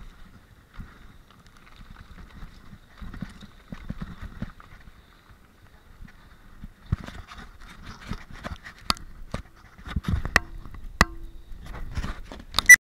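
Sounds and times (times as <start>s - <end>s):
mountain bike rattling over rocks: 0.0s - 12.6s.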